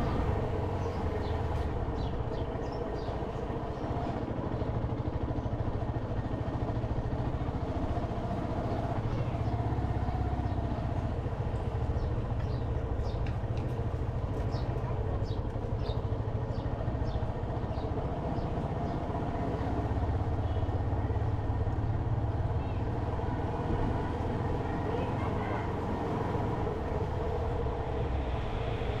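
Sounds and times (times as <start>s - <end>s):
motorcycle engine rumble: 0.0s - 29.0s.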